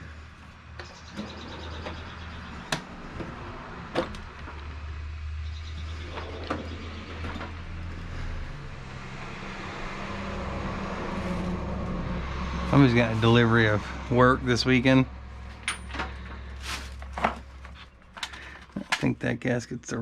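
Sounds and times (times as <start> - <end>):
vehicle engine running: 0.0 - 19.2.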